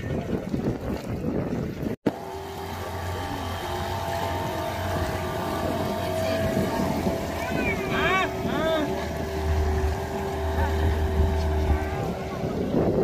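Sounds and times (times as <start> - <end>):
water noise: 0.0 - 13.0
wind: 0.0 - 13.0
outboard motor running: 0.2 - 13.0.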